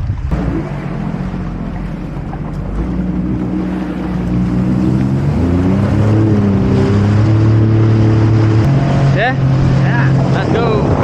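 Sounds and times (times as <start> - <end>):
water and wind noise: 0.0 - 11.0
jet ski engine revving: 0.3 - 11.0.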